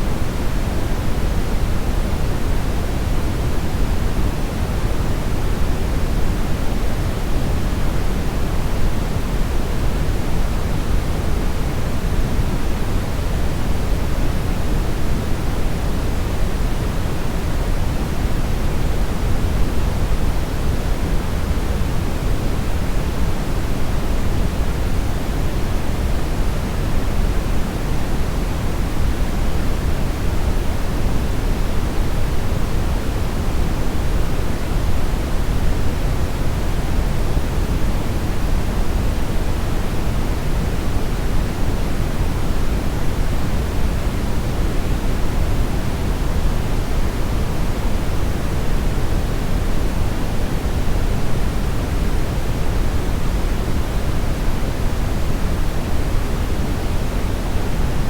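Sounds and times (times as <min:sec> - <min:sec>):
brown noise hiss-rumble: 0:00.0 - 0:58.0.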